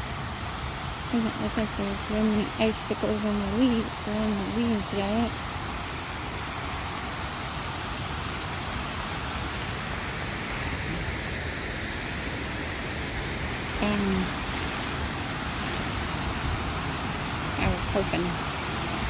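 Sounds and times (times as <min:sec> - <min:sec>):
water pouring over waterfall: 0:00.0 - 0:19.0.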